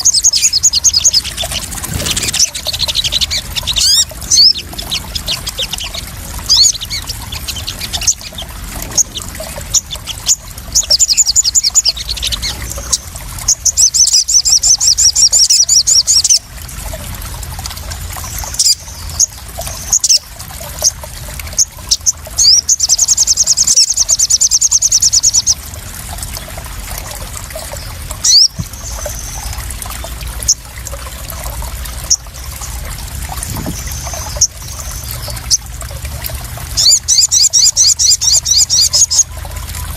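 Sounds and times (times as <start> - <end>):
trickling splashing water: 0.0 - 39.9.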